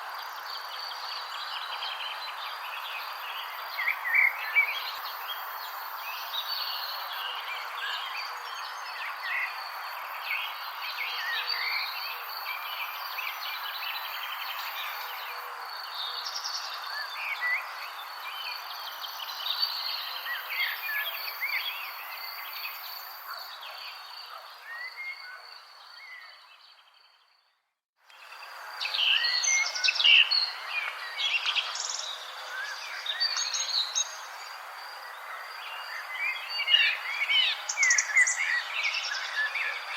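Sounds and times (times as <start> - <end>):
songbirds chirping and singing: 0.1 - 39.9.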